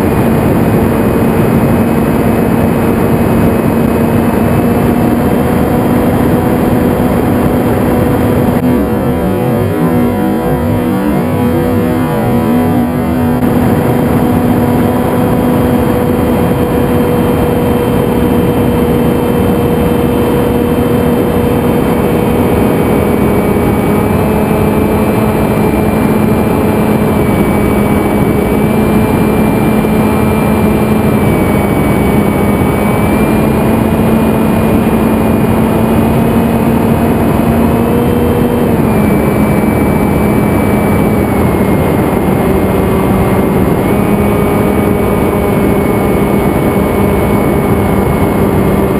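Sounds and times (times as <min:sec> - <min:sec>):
electric motor and propeller hum: 0:00.0 - 0:48.9
wind rush on microphone: 0:00.0 - 0:48.9.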